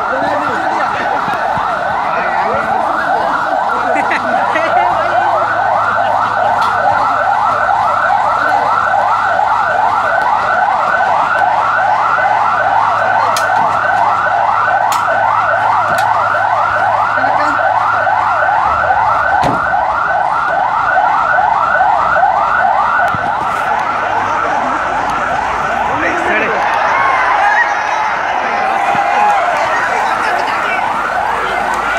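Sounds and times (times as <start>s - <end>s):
ambulance siren yelping: 0.0s - 31.9s.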